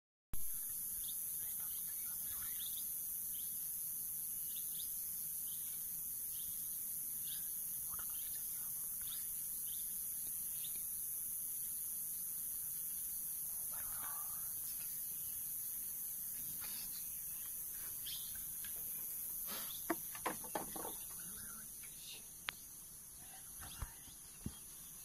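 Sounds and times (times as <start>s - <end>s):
insects droning: 0.4s - 25.0s
birds chirping: 0.5s - 25.0s.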